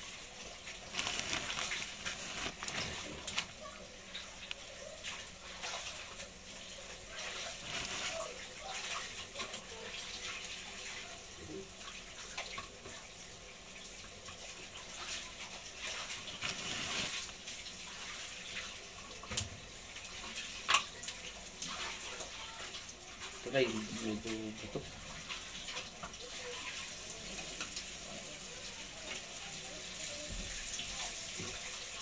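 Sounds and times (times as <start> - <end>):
fish frying in hot oil: 0.0 - 32.0.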